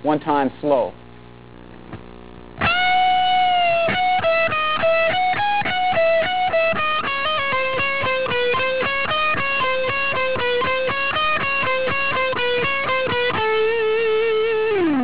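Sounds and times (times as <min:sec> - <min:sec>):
electric guitar lick: 0:01.7 - 0:15.0.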